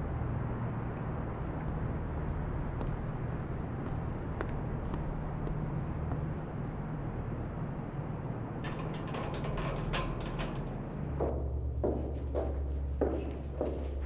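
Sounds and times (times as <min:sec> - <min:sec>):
crickets chirping: 0:00.0 - 0:11.4
low hum: 0:00.0 - 0:13.0.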